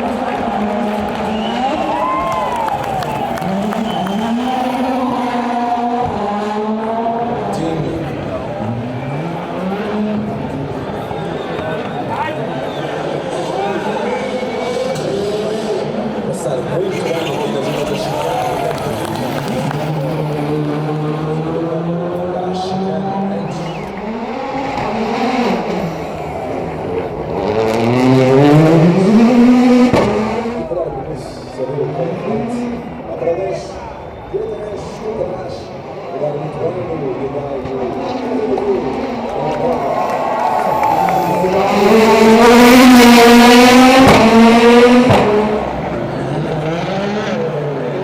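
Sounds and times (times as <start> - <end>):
car engine accelerating: 0.0 - 33.2, 35.8 - 48.0.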